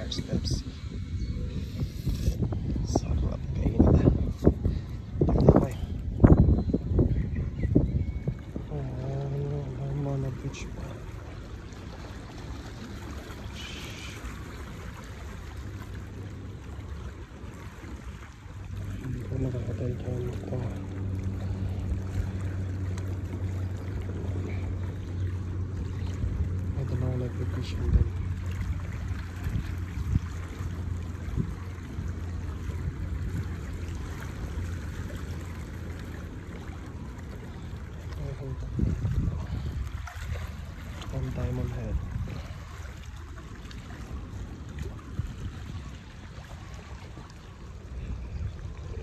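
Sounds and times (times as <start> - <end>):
wind rumbling on microphone: 0.0 - 49.0
water lapping among rocks: 8.3 - 49.0.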